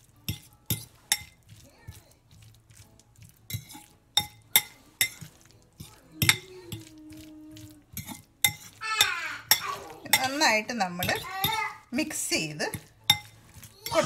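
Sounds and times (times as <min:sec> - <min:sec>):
fork mashing in bowl: 0:00.0 - 0:14.0
fork clinking against ceramic bowl: 0:00.2 - 0:02.5, 0:03.2 - 0:11.8, 0:12.7 - 0:14.0.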